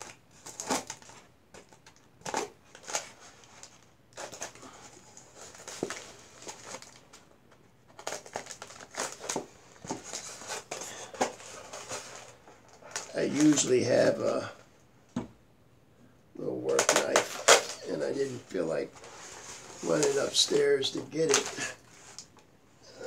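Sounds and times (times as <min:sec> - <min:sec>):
packaging wrap crinkling: 0:00.0 - 0:07.3, 0:07.9 - 0:14.5, 0:16.7 - 0:22.3.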